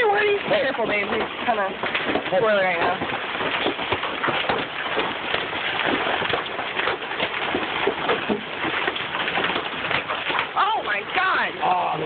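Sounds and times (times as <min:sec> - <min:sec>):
hailstones striking cars: 0:00.0 - 0:11.6.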